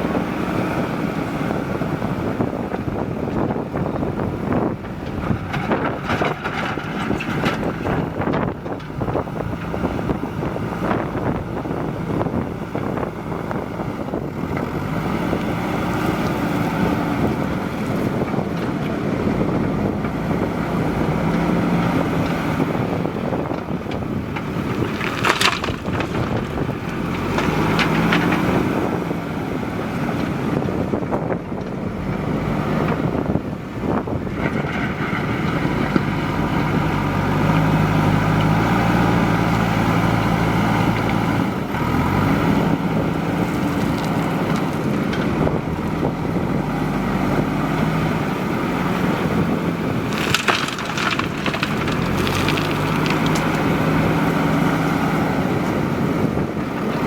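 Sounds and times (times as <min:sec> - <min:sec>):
diesel engine revving: 0:00.0 - 0:57.0
wind buffeting microphone: 0:00.0 - 0:57.0.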